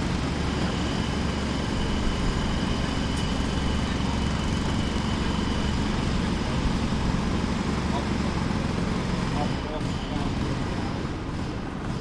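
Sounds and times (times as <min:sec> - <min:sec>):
distant jackhammer: 0:00.0 - 0:12.0.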